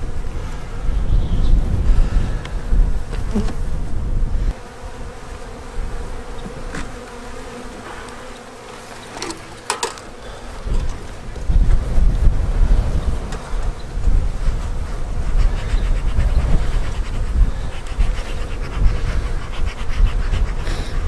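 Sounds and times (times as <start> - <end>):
honey bees buzzing: 0.0 - 21.0.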